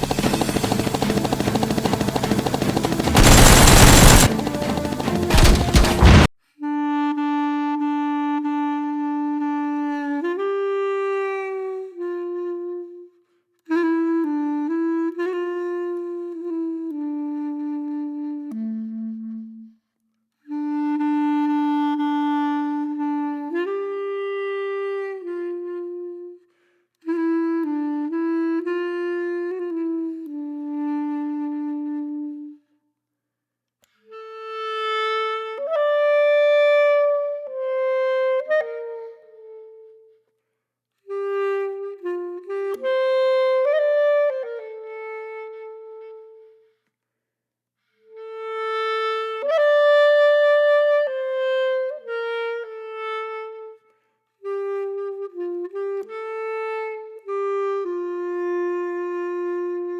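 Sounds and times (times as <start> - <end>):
reedy woodwind melody: 0.0 - 32.8, 34.0 - 40.4, 41.0 - 46.8, 47.9 - 59.9.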